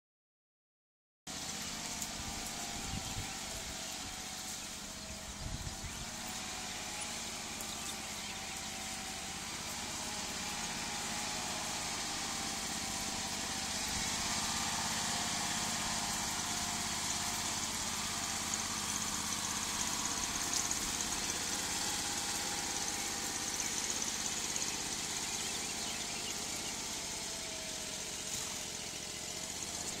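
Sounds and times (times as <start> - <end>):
utility vehicle engine running: 1.3 - 30.0.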